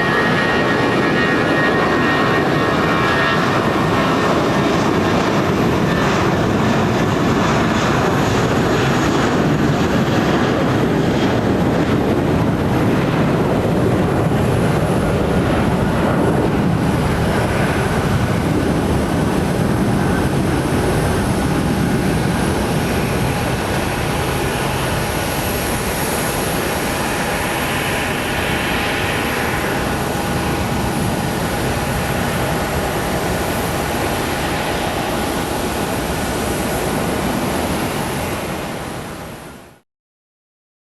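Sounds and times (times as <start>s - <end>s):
jet engines rumbling: 0.0s - 39.8s.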